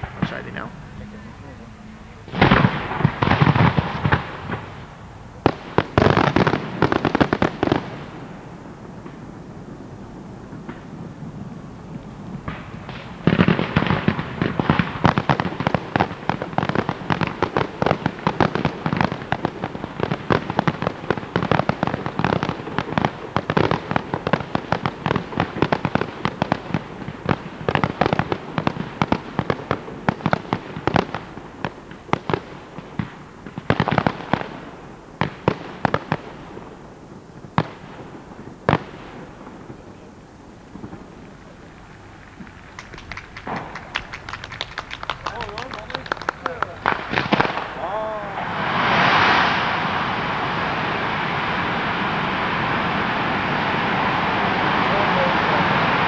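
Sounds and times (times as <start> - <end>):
fireworks bangs and crackles: 0.0 - 0.9, 1.9 - 56.0.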